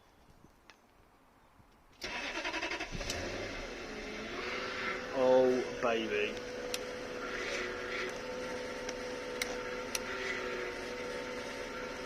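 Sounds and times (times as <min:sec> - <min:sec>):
car engine idling: 0:02.1 - 0:12.0.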